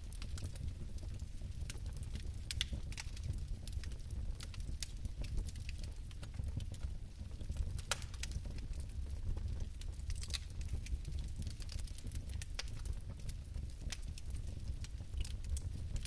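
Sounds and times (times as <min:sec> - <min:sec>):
fireplace flame burning: 0:00.0 - 0:16.0.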